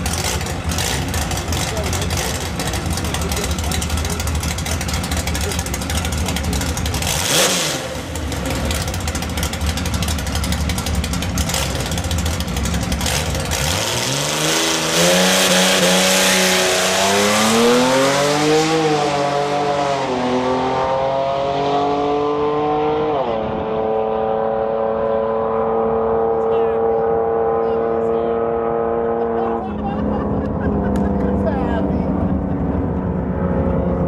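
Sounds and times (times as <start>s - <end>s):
drag car engine revving: 0.0s - 34.0s.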